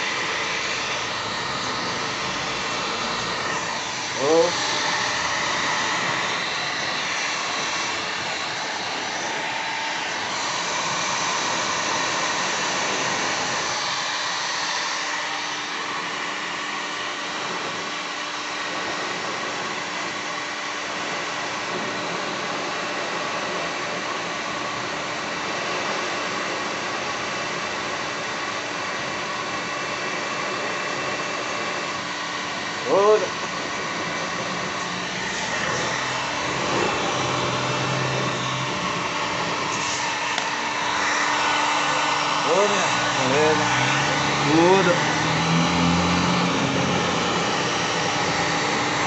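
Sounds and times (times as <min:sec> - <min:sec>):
heat gun fan hiss: 0:00.0 - 0:49.0.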